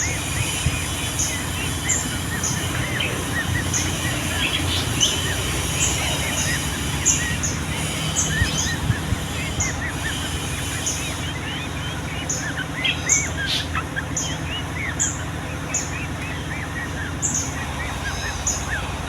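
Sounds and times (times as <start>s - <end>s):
bulbuls chattering: 0.0s - 19.0s
steady low hum: 0.0s - 19.0s.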